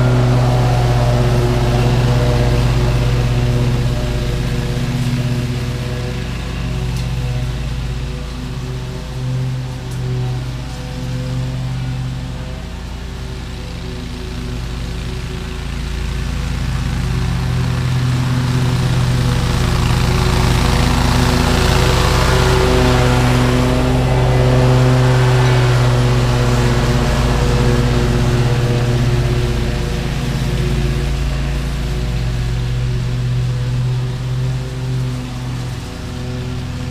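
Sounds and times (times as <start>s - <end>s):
lawn mower cutting grass: 0.0s - 36.9s.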